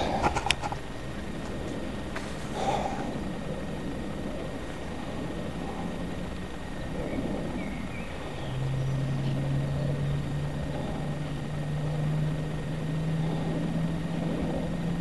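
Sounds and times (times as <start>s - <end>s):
winch motor hum: 0.0s - 15.0s.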